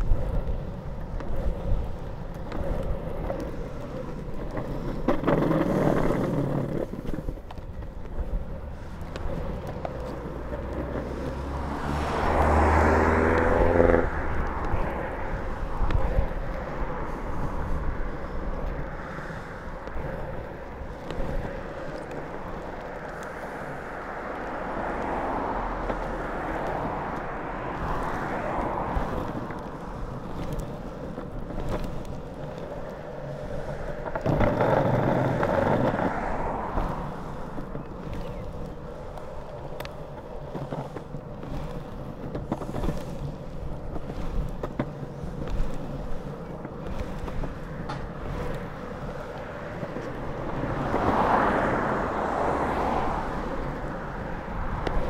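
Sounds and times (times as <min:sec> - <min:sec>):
longboard wheels rolling on pavement: 0:00.0 - 0:55.0
vehicle passing: 0:00.0 - 0:55.0
wheels clicking over joints: 0:00.0 - 0:55.0.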